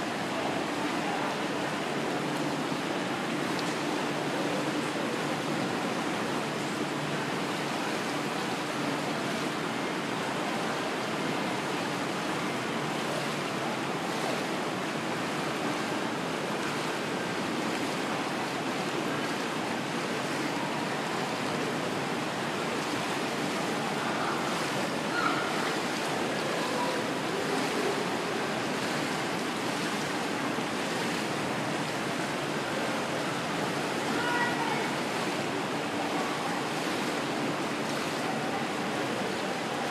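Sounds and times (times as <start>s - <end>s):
water sloshing and lapping: 0.0s - 39.9s.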